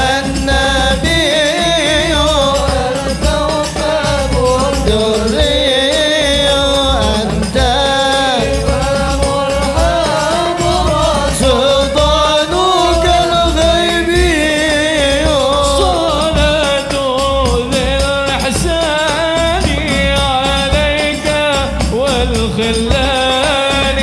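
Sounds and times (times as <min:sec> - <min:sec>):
frame drums beating: 0:00.0 - 0:24.0
man singing: 0:00.0 - 0:24.0.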